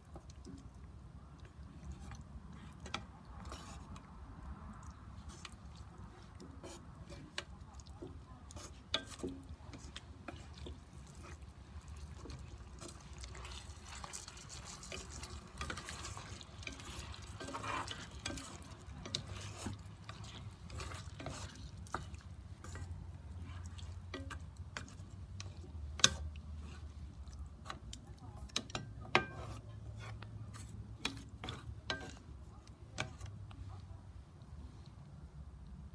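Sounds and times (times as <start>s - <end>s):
chopsticks stirring in sauce: 0.0s - 35.3s.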